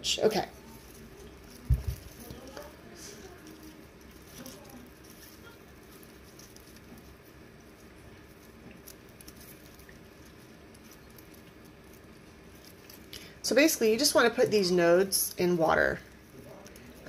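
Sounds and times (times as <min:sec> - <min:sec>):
leaves rustling and ticking: 0:00.0 - 0:17.0.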